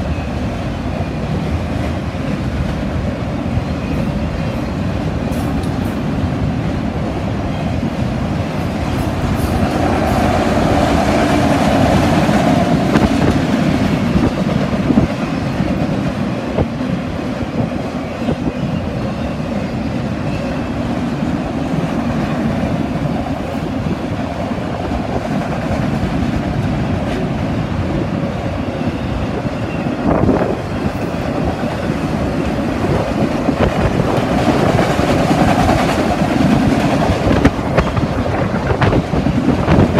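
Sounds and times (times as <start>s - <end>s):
freight train rolling past: 0.0s - 39.9s
wind buffeting the microphone: 0.0s - 39.9s.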